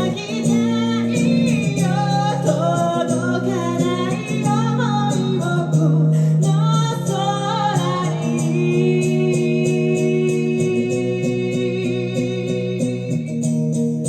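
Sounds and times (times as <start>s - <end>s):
acoustic guitar: 0.0s - 14.0s
woman singing: 0.0s - 14.0s.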